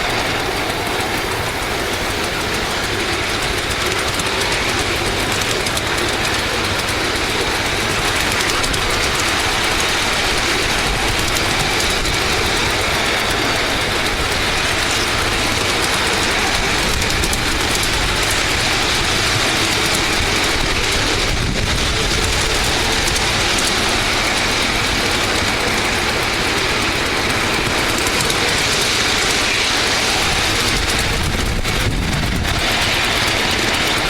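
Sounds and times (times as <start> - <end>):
miniature train running: 0.0 - 34.0.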